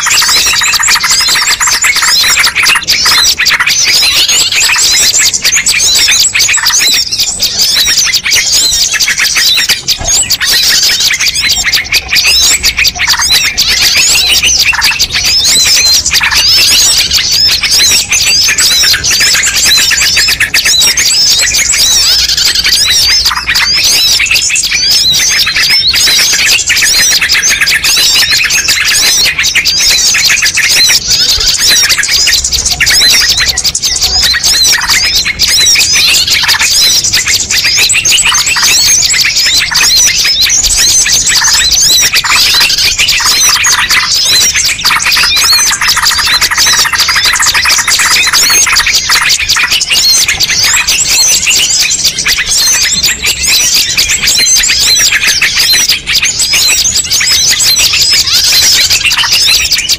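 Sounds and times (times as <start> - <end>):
songbirds chirping and squawking: 0.0 - 59.9.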